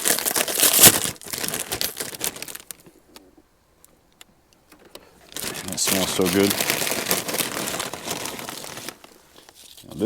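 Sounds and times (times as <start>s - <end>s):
dense rustling and crinkling: 0.0s - 10.0s.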